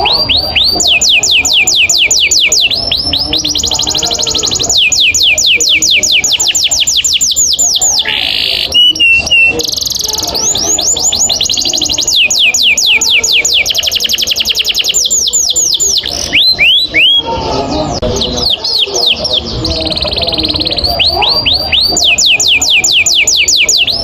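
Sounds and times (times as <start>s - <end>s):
canary singing rolling trills: 0.0s - 24.0s.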